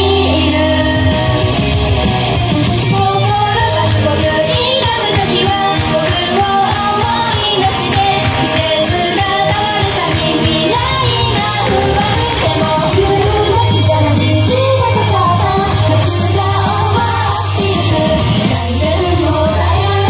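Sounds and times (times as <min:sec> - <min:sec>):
woman singing into microphone: 0:00.0 - 0:01.3, 0:02.7 - 0:20.0
steady drum beat: 0:00.0 - 0:20.0
upbeat pop song through pa: 0:00.0 - 0:20.0.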